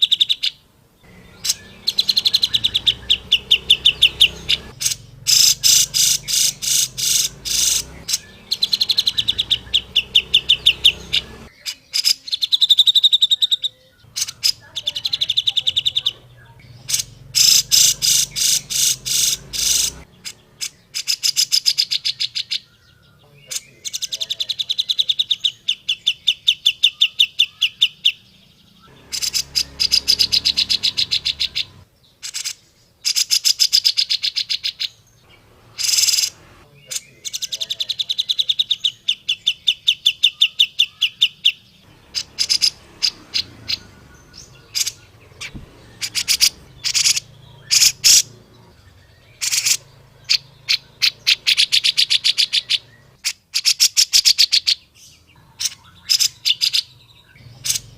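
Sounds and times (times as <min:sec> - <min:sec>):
bulbul chattering calls: 0:00.0 - 0:57.9.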